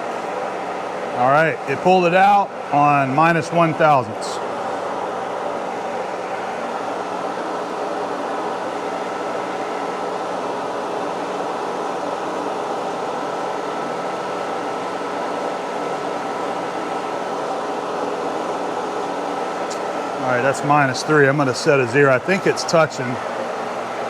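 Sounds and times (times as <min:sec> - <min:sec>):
milling machine gear hum: 0:00.0 - 0:24.0
thin constant whine: 0:00.0 - 0:24.0.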